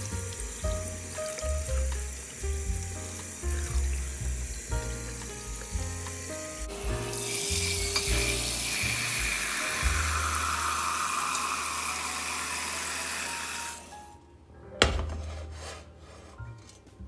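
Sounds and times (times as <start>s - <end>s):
water splashing into metal pot: 0.0s - 13.8s.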